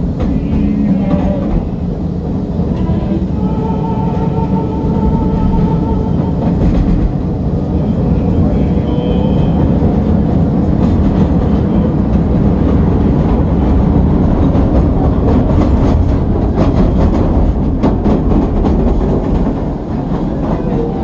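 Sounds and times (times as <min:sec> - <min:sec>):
train rumbling inside car: 0:00.0 - 0:21.0
wheels clacking over rail joints: 0:00.0 - 0:21.0.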